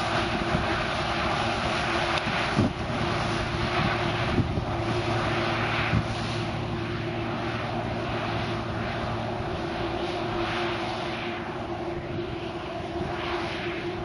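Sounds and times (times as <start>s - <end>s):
combine harvester droning: 0.0s - 14.0s.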